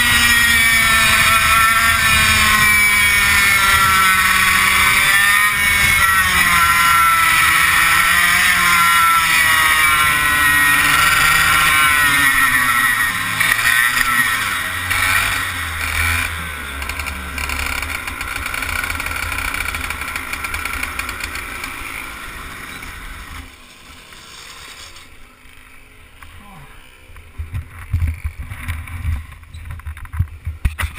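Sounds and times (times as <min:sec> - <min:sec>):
two-stroke kart engine revving: 0:00.0 - 0:29.4.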